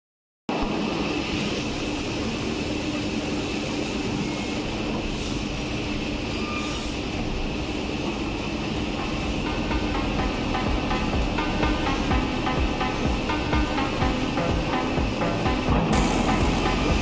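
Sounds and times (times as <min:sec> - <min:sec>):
machining center running: 0:00.5 - 0:17.0.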